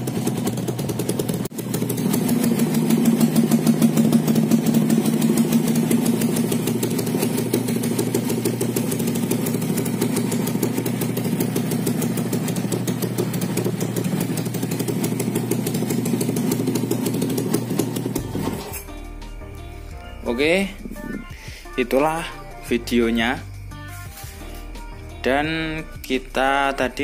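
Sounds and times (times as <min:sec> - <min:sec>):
motorcycle engine idling: 0:00.0 - 0:24.6.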